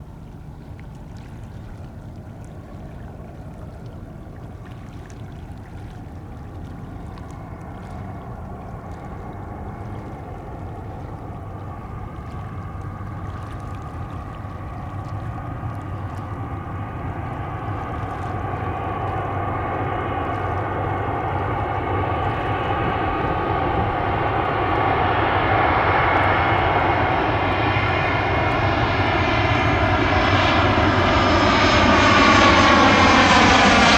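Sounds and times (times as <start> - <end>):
jet engine rumble: 5.7 - 33.9.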